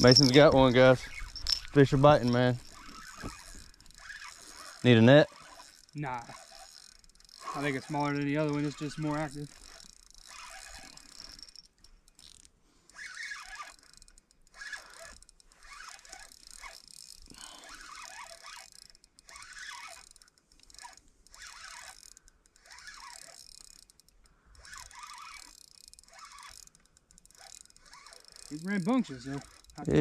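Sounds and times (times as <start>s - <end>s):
fishing reel clicking and whirring: 0.0s - 30.0s.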